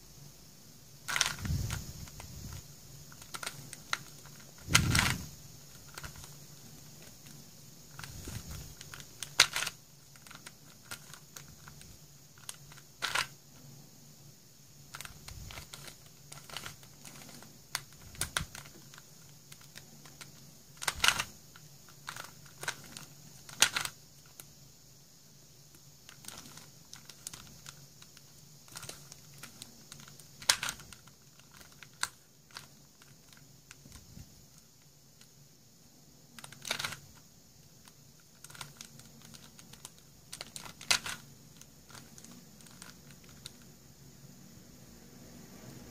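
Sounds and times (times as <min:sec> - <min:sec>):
plastic puzzle clicking: 0:01.1 - 0:13.4, 0:14.9 - 0:24.5, 0:25.7 - 0:35.3, 0:36.4 - 0:37.2, 0:37.8 - 0:43.7.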